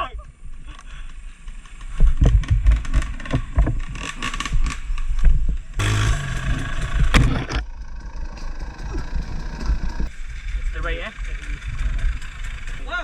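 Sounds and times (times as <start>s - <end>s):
off-road vehicle rumbling: 0.0s - 13.0s.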